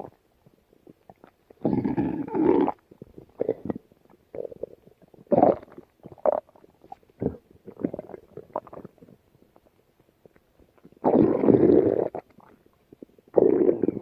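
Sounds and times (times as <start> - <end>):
stomach growling: 0.0 - 14.0.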